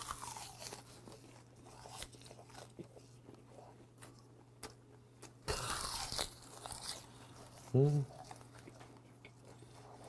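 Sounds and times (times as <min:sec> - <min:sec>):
close-up chewing: 0:00.0 - 0:10.0.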